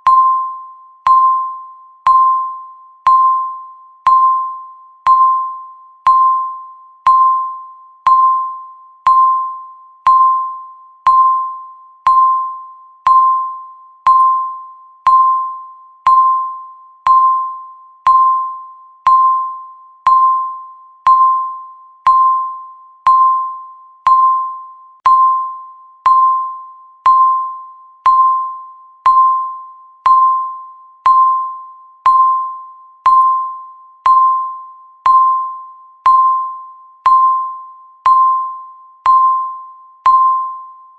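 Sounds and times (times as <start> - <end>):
timer beeping: 0.0 - 40.9.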